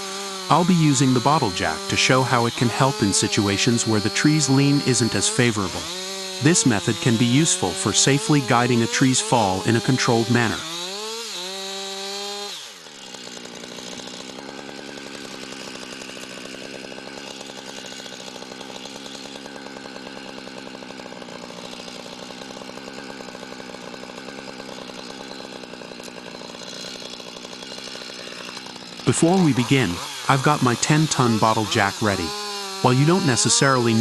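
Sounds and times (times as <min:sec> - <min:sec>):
chainsaw engine running: 0:00.0 - 0:34.0.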